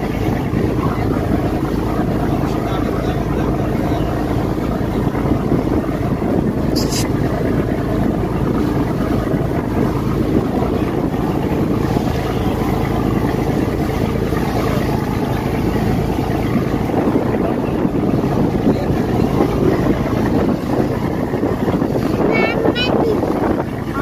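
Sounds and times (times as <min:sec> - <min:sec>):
boat engine running: 0:00.0 - 0:24.0
water rushing along hull: 0:00.0 - 0:24.0
wind buffeting microphone: 0:00.0 - 0:24.0.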